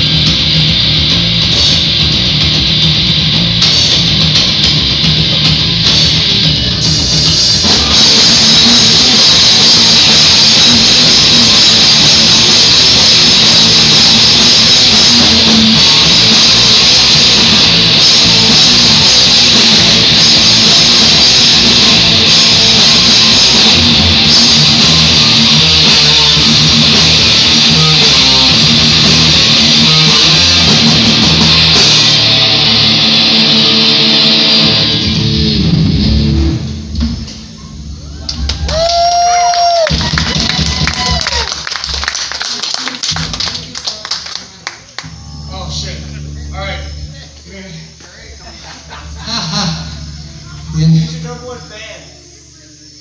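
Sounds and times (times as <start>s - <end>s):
live rock band playing: 0.0s - 37.9s, 38.6s - 42.4s, 44.9s - 47.4s, 48.7s - 51.2s.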